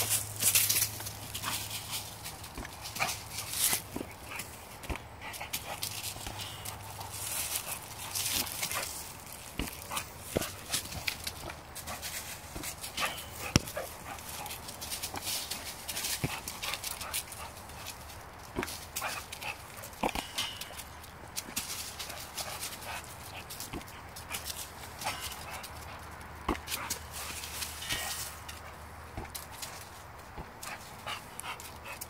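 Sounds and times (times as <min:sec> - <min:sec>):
dog noises: 0:00.0 - 0:32.0
scuffling in dry leaves: 0:00.0 - 0:32.0.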